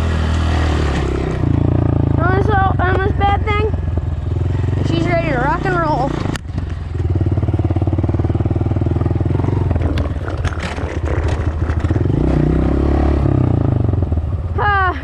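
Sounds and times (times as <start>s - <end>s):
dirt bike engine running: 0.0s - 14.9s.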